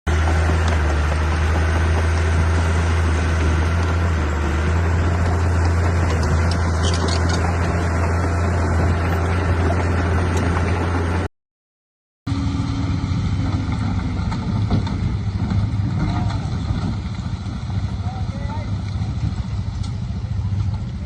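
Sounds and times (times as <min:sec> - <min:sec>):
heavy diesel engine running: 0:00.1 - 0:11.3, 0:12.3 - 0:21.0.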